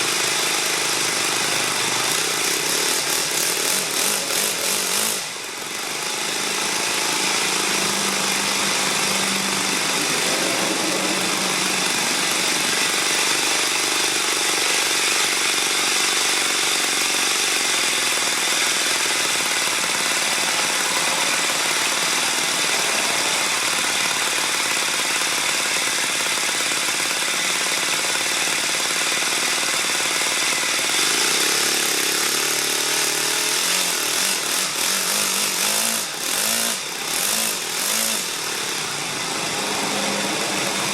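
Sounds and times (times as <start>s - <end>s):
model engine running: 0.0s - 40.9s.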